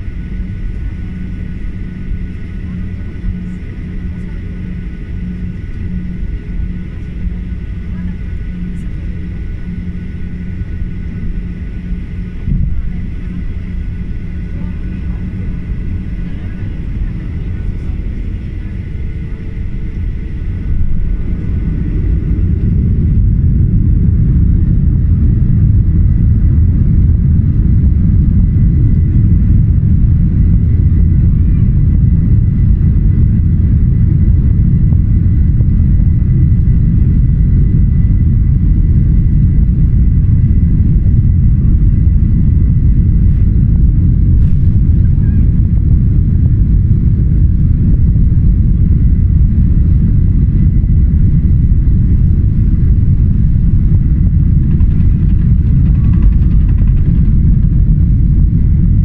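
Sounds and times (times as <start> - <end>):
jet engines roaring with whine: 0.0 - 59.0.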